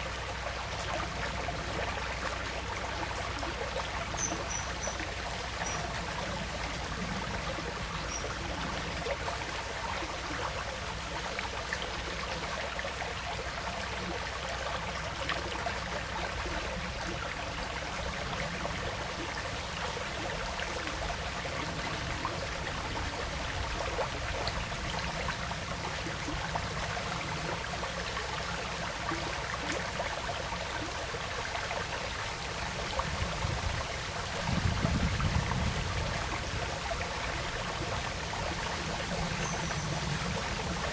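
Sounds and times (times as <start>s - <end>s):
stream flowing and trickling: 0.0s - 40.9s.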